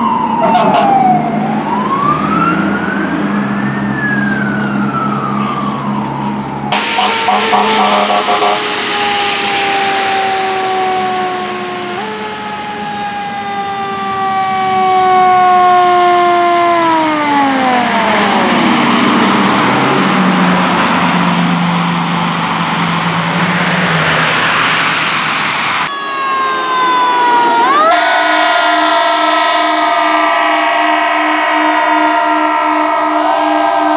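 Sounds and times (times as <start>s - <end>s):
engine and road noise: 0.0s - 33.9s
fire truck siren: 0.0s - 33.9s.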